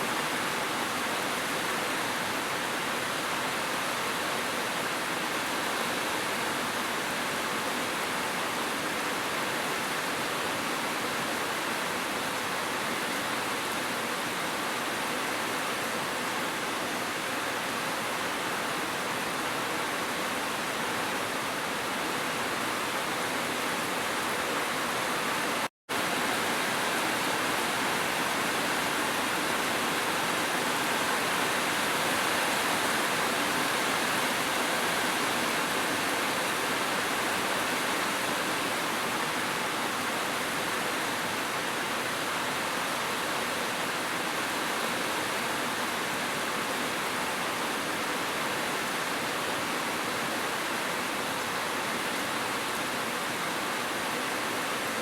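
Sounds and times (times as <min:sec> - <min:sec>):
rain and waterfall rushing: 0:00.0 - 0:55.0.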